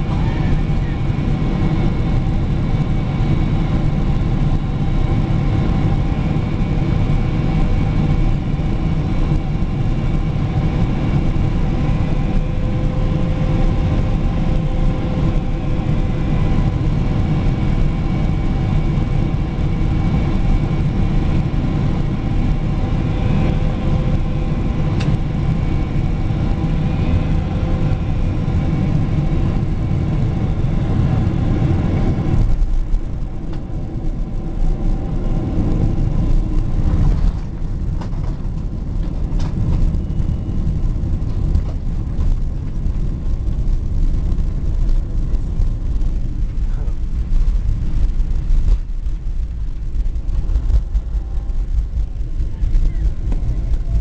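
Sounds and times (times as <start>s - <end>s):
airplane cabin engine noise: 0.0s - 54.0s.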